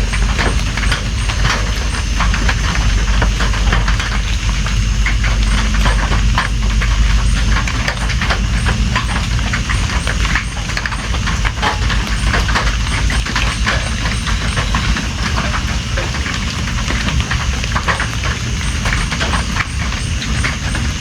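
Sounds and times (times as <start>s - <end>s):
raindrops pattering: 0.0s - 21.0s.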